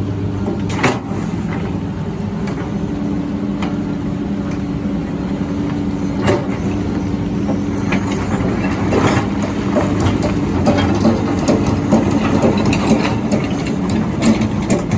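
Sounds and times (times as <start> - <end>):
excavator engine drone: 0.0 - 14.9.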